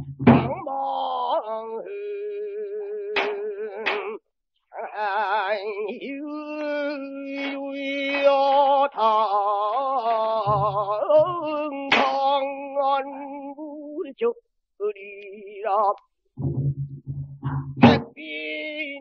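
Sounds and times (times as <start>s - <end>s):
man singing unaccompanied: 0.3s - 16.1s, 17.8s - 19.0s.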